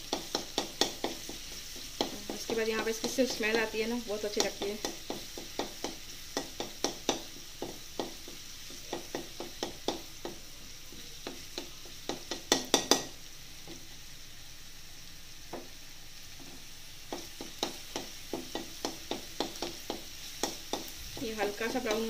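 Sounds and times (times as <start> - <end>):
garlic sizzling in oil: 0.0 - 22.0.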